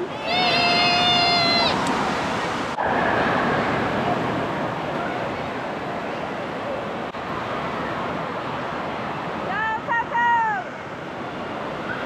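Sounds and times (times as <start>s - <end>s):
rushing water and splashing: 0.0s - 12.0s.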